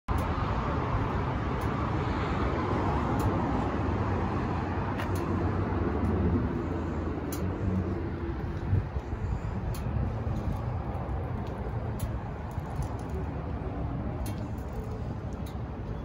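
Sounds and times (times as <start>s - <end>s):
vehicle engine rumbling: 0.1s - 16.0s.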